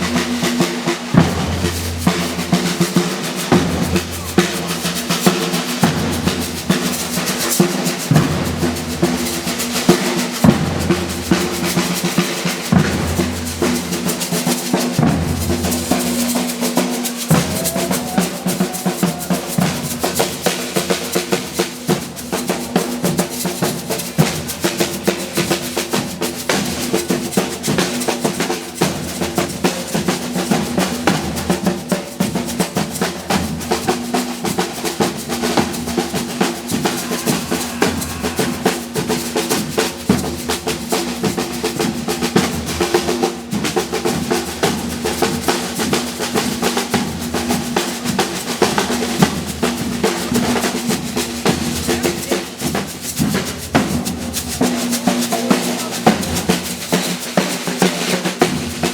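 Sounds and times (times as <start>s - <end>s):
percussion ensemble drumming: 0.0s - 58.9s.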